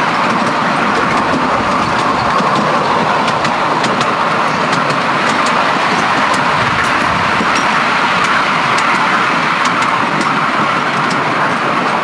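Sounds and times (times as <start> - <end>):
carriage rolling rumble: 0.0 - 12.0
wheels clicking over rails: 0.0 - 12.0.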